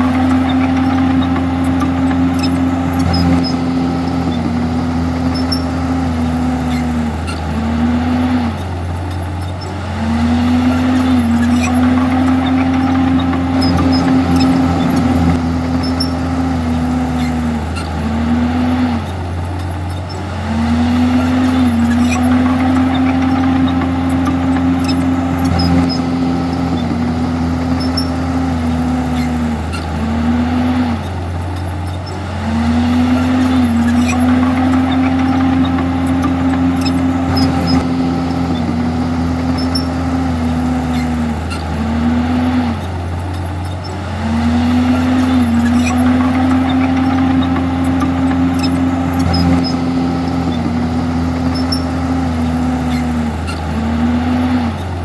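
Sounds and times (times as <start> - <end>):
bulldozer diesel engine straining: 0.0 - 55.0.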